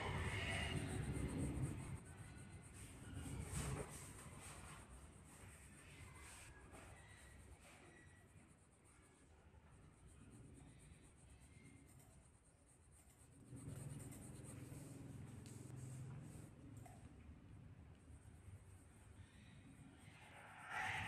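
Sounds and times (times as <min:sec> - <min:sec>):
pencil scratching on paper: 0:00.0 - 0:17.0, 0:17.9 - 0:21.0.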